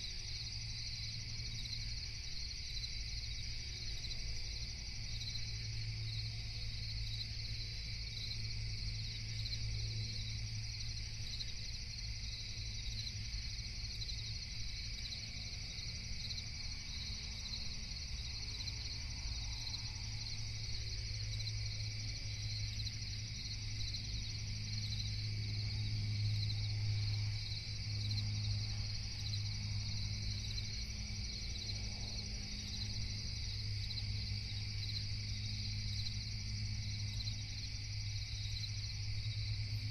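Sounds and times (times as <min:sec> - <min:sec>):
constant low hum: 0:00.0 - 0:39.9
cricket chorus trilling: 0:00.0 - 0:39.9.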